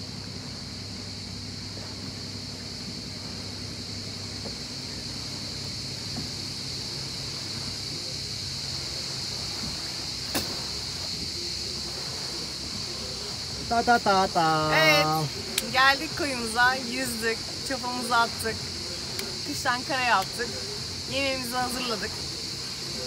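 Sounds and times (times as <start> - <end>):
outboard motor low hum: 0.0 - 23.0.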